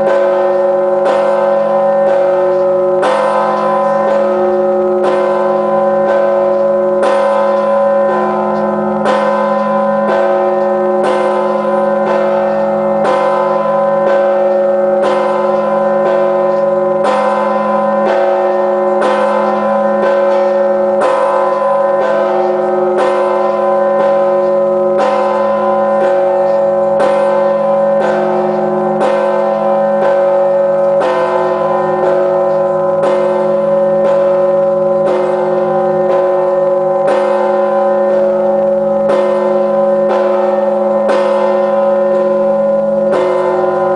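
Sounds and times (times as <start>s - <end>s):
church bell striking: 0.0s - 43.9s.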